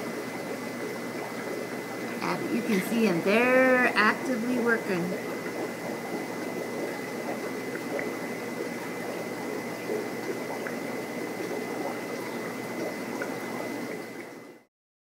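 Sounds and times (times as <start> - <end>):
aquarium water bubbling and trickling: 0.0 - 14.7.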